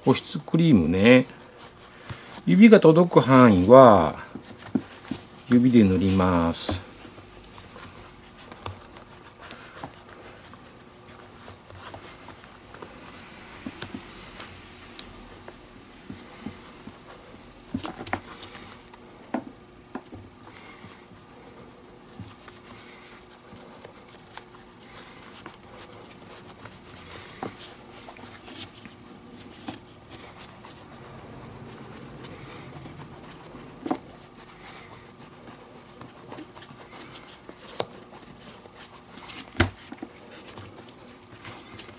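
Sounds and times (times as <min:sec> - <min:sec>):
faint steady hum: 0:00.0 - 0:41.9
fingers rubbing leather: 0:02.5 - 0:41.9.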